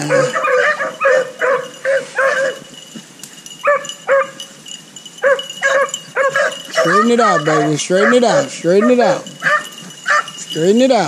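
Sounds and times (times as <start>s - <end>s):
hounds barking: 0.0s - 2.8s, 3.6s - 11.0s.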